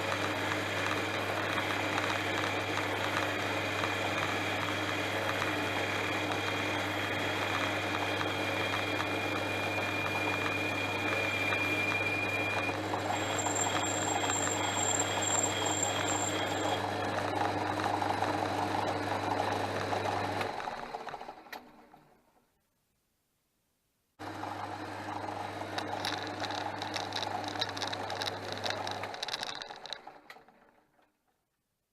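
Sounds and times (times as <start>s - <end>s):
lathe running and spinning down: 0.0s - 22.1s, 24.2s - 30.8s.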